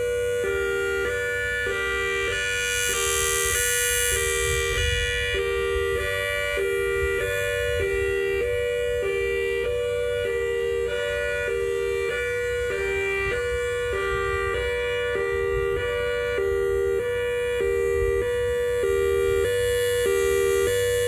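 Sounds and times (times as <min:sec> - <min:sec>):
hi-lo warning siren: 0:00.0 - 0:21.0.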